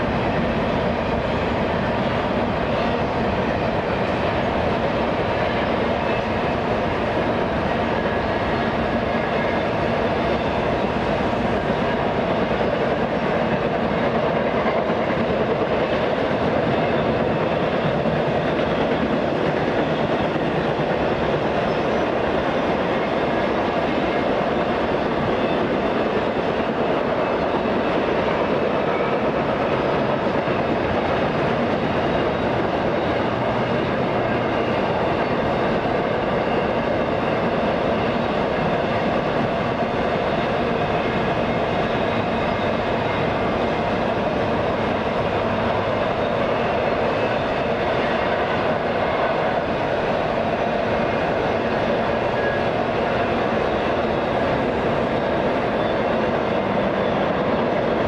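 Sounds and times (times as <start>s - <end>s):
train cars rolling on track: 0.0s - 58.0s.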